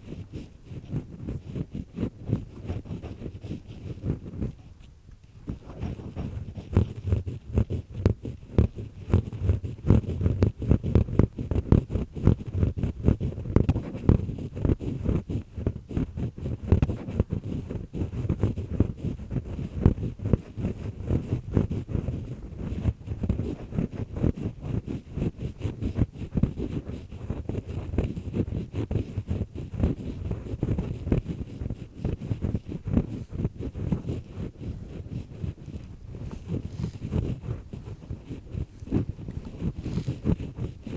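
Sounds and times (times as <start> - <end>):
earpick scraping in ear: 0.0 - 40.9.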